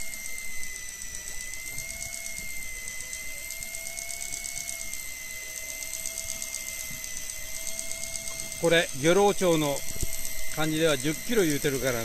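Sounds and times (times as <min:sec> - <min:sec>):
electric fishing reel whine: 0:00.0 - 0:12.0
gears ticking: 0:00.0 - 0:12.0.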